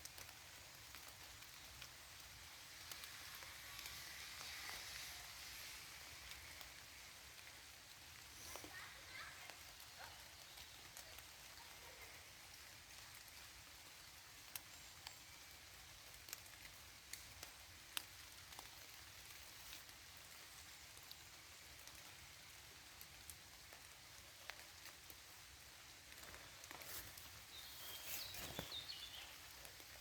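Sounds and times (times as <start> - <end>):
raindrops ticking on leaves: 0.0 - 30.0
steady hiss of rain: 0.0 - 30.0.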